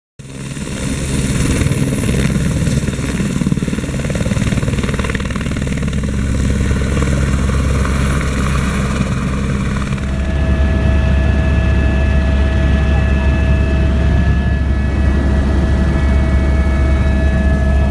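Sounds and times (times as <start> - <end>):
helicopter turbine and rotor: 0.2 - 17.9.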